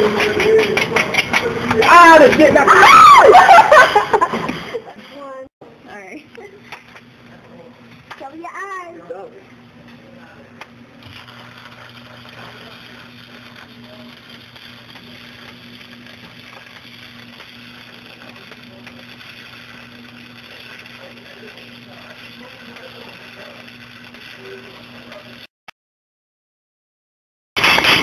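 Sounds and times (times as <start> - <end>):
welding arc crackling: 0.0 - 8.9, 9.8 - 25.5, 27.6 - 28.0
electrical hum: 0.0 - 25.5.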